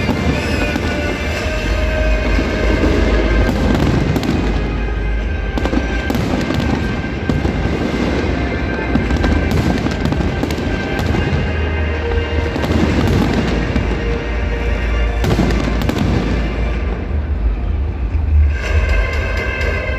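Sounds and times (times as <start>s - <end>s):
deep rumble: 0.0s - 19.5s
fireworks crackling and booming: 0.0s - 19.9s.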